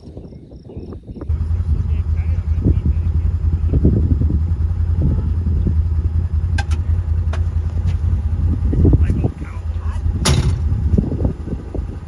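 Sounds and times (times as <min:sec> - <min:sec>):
vehicle engine rumbling: 0:01.3 - 0:12.0.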